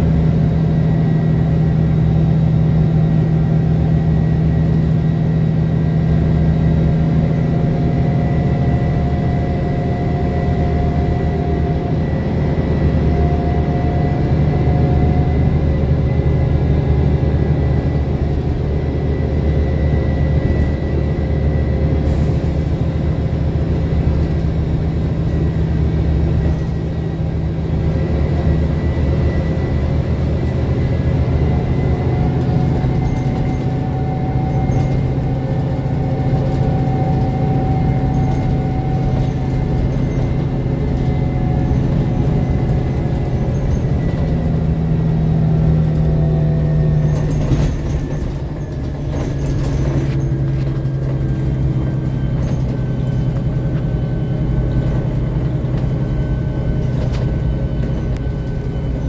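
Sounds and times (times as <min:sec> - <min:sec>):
bus diesel engine droning: 0:00.0 - 0:59.0
road noise: 0:00.0 - 0:59.0.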